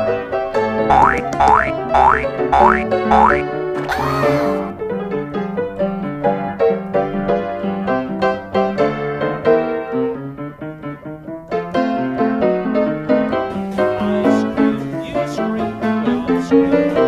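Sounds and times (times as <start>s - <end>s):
piano keyboard tune: 0.0s - 17.0s.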